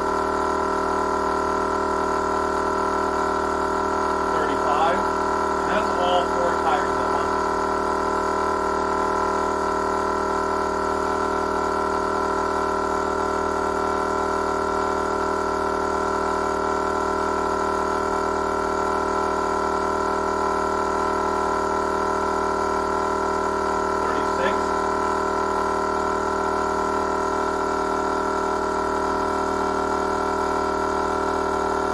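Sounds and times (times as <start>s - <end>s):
electric air compressor humming: 0.0s - 31.9s.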